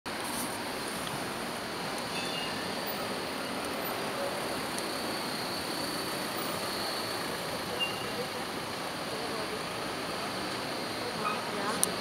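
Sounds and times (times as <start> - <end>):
traffic: 0.1 - 12.0
tram rolling on street rails: 0.1 - 12.0.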